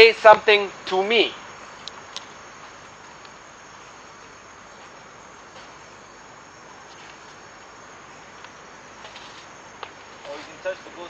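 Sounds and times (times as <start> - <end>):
crickets and insects chirping: 0.0 - 11.0.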